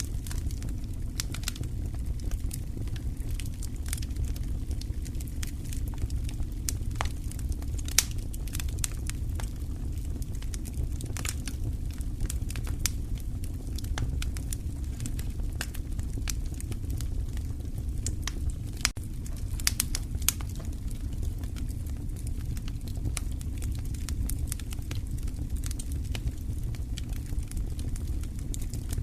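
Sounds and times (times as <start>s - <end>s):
fire pops and snaps: 0.0s - 29.0s
low rumble: 0.0s - 29.0s
wood fire crackling: 0.0s - 29.0s.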